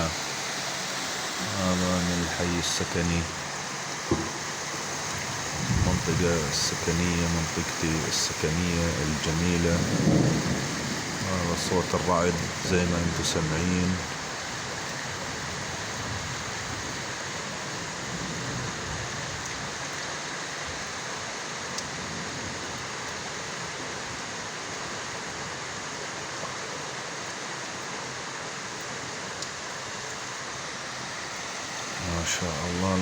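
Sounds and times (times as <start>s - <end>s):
heavy rain pouring: 0.0s - 33.0s
rainwater running in street: 0.0s - 33.0s.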